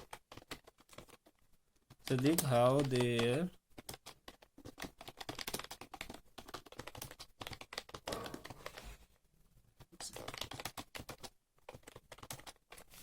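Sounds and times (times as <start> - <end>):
keyboard typing: 0.0 - 9.0, 10.0 - 13.0.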